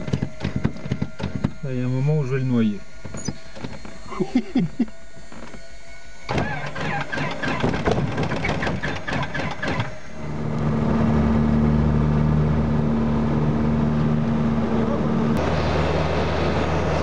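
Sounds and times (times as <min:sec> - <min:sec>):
aircraft piston engine starting: 0:00.0 - 0:17.0.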